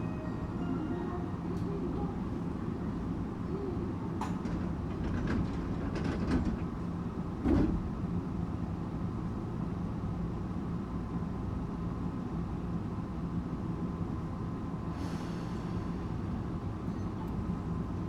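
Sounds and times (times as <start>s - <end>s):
train interior rumble: 0.0s - 18.0s.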